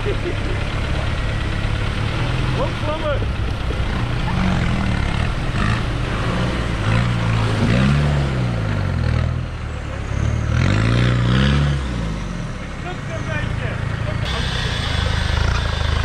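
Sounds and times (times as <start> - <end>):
engine revving: 0.0 - 16.0
truck pushing through water: 0.0 - 16.0.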